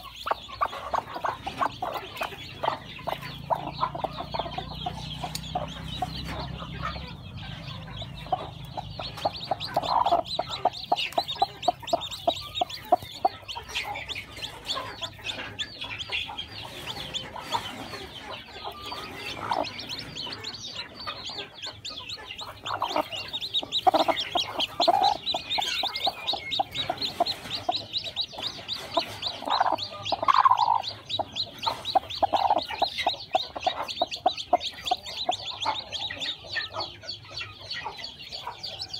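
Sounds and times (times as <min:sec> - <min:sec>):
chicks chirping: 0:00.0 - 0:38.9
hen clucking: 0:00.0 - 0:38.9.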